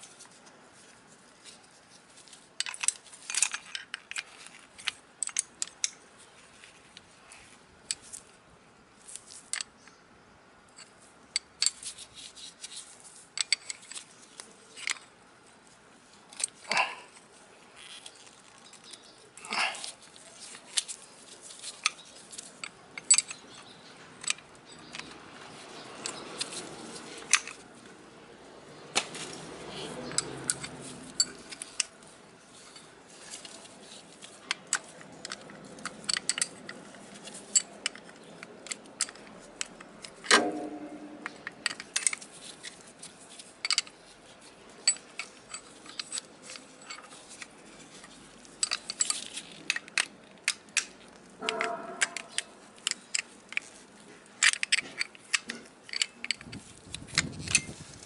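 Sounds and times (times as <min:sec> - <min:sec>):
metal tools clicking and clinking: 0:02.3 - 0:06.0, 0:10.7 - 0:15.2, 0:16.3 - 0:17.2, 0:17.8 - 0:27.7, 0:29.0 - 0:58.0.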